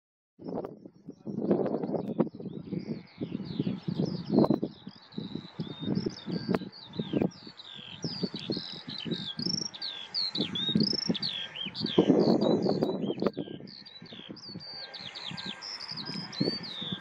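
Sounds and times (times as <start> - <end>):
songbirds chirping: 0.4 - 17.0
wind buffeting microphone: 0.4 - 17.0.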